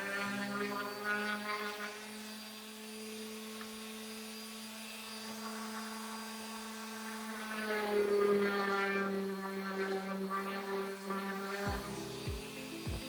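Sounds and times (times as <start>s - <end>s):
electric sander running: 0.0s - 13.0s.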